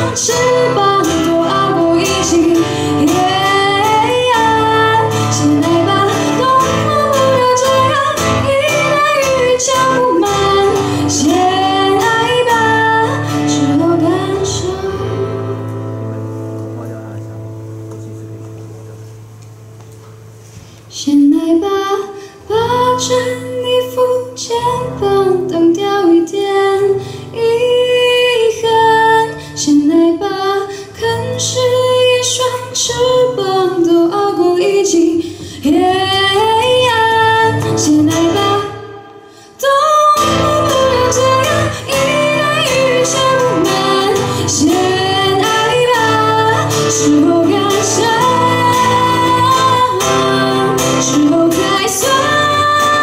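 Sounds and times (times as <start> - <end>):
woman singing a pop ballad: 0.0 - 15.8, 20.9 - 53.0
strummed acoustic guitar: 0.0 - 20.8, 21.7 - 38.9, 40.0 - 53.0.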